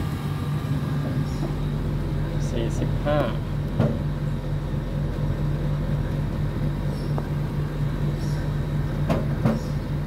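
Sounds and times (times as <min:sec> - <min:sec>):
air conditioner unit humming: 0:00.0 - 0:10.0.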